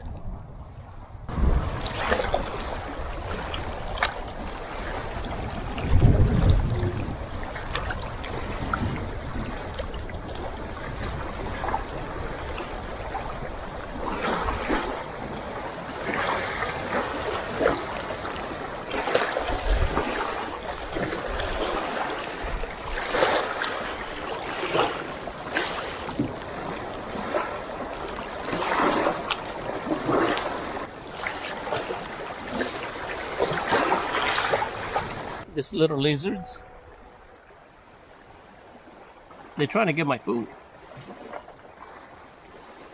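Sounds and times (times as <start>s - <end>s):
wind on microphone: 0.0s - 39.5s
small waves washing on shore: 0.0s - 42.9s.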